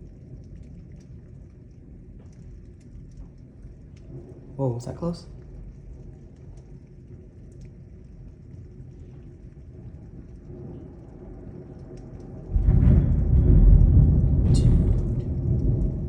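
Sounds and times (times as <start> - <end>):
deep thunder rumble: 0.0 - 16.0
rain and storm noise: 0.0 - 16.0.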